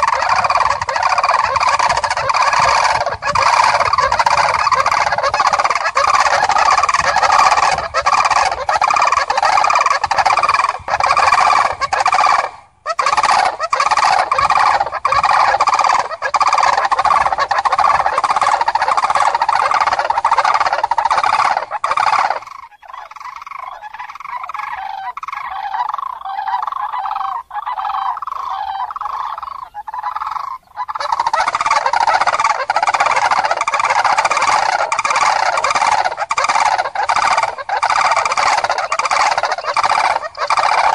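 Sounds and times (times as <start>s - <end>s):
cranes trumpeting calls: 0.0s - 40.9s.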